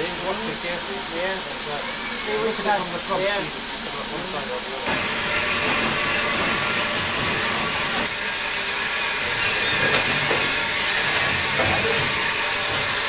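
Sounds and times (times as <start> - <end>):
locomotive running noise: 0.0 - 13.0
steam hissing: 0.0 - 13.0.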